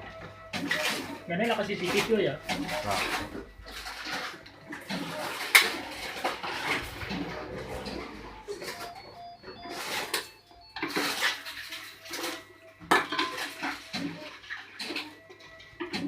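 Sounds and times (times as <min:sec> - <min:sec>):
cans and bottles clattering: 0:00.5 - 0:15.2.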